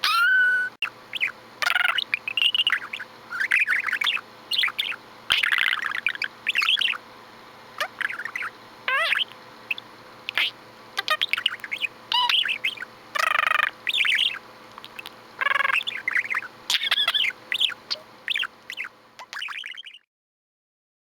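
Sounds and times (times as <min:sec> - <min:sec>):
budgerigar chattering: 0:00.0 - 0:07.0, 0:07.8 - 0:20.0
harsh buzzy bird calls: 0:00.0 - 0:20.1.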